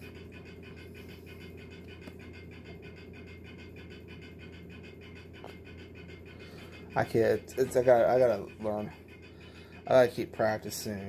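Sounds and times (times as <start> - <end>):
machine hum with fast flutter: 0.0 - 11.0.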